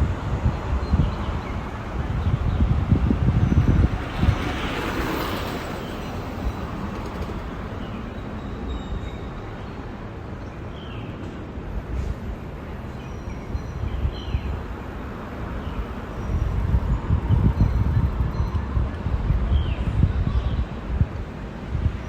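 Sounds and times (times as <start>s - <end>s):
wind buffeting microphone: 0.0s - 10.3s, 13.4s - 22.0s.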